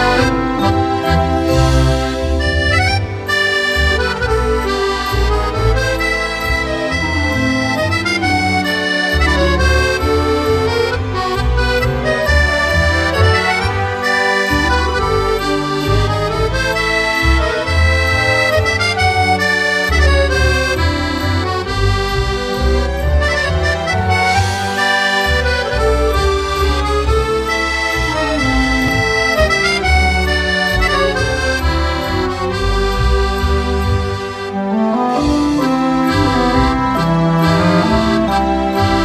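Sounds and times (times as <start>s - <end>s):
instrumental background music: 0.0s - 39.0s.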